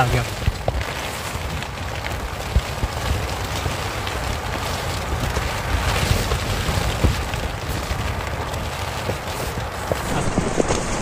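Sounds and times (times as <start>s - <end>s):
heavy rain on tent fabric: 0.0s - 11.0s
sharp raindrop hits: 0.0s - 11.0s.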